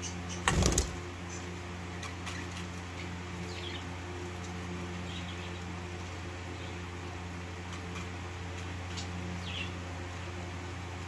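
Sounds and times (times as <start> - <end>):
baby bird chicks peeping: 0.0 - 11.0
steady low hum: 0.0 - 11.0.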